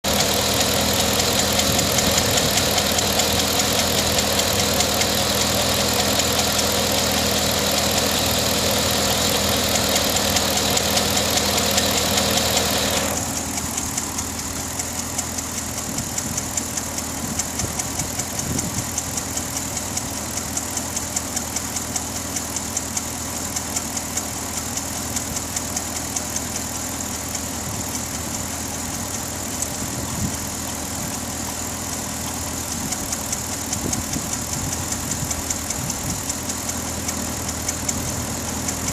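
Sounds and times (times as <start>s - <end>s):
car engine idling: 0.0s - 38.9s
rapid engine ticking: 0.0s - 38.9s.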